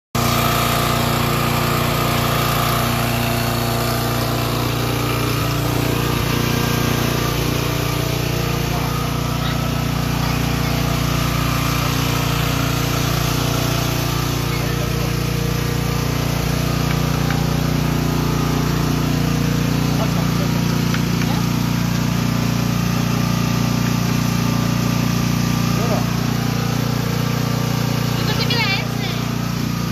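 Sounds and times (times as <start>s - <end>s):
small gasoline engine running: 0.2s - 29.9s.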